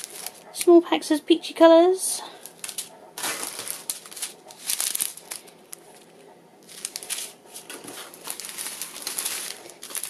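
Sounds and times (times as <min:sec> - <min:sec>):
plastic bags crinkling: 0:00.0 - 0:00.6, 0:02.3 - 0:10.0.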